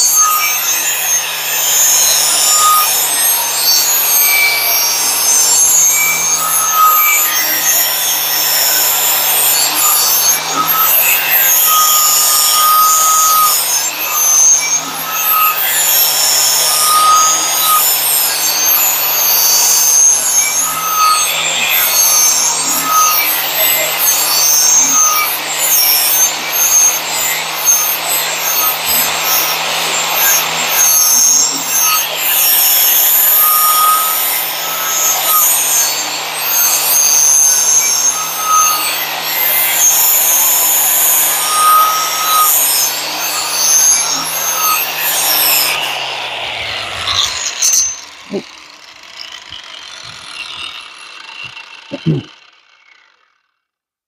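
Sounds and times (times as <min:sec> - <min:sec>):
angle grinder grinding metal: 0:00.0 - 0:53.8.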